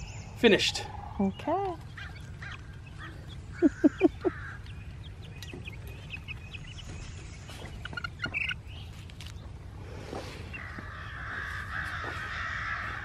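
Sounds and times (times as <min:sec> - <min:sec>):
chicks peeping and chirping: 0:00.0 - 0:13.0.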